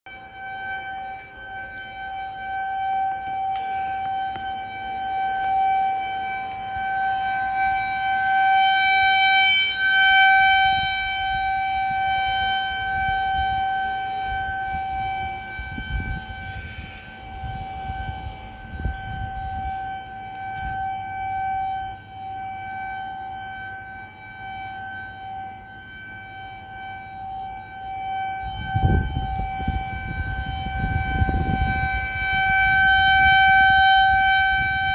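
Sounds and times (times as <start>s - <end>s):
tornado warning siren: 0.0s - 34.9s.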